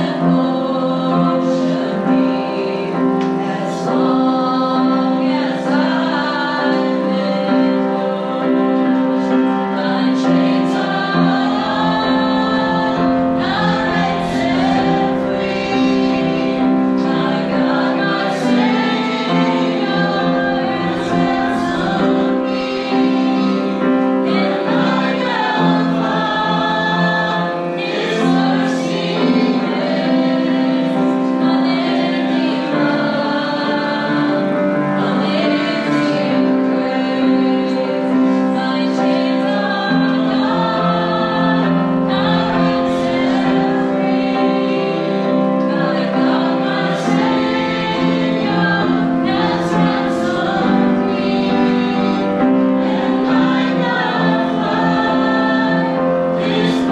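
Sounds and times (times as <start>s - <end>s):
group singing worship song: 0.0s - 56.9s.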